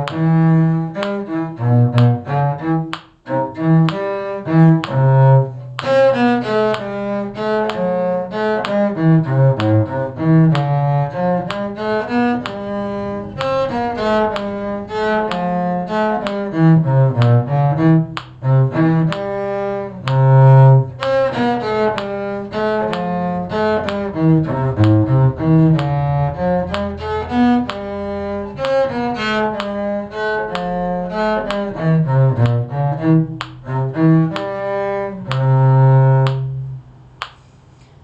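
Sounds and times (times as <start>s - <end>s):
bowed strings playing: 0.0s - 37.3s.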